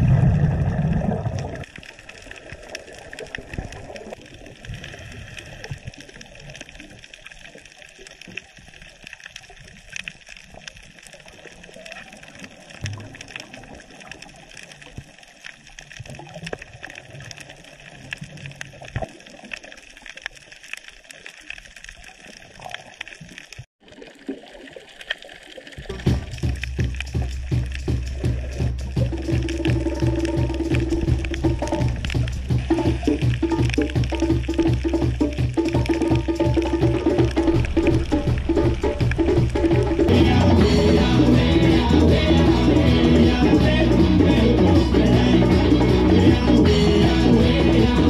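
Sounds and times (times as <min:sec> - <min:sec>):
diver's exhaled bubbles gurgling: 0:00.0 - 0:46.0
snapping shrimp crackle underwater: 0:00.6 - 0:40.1.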